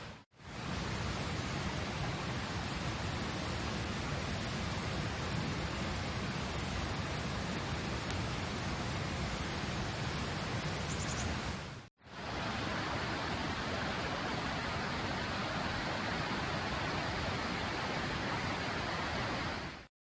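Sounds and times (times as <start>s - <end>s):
steady rushing hiss: 0.0s - 19.7s.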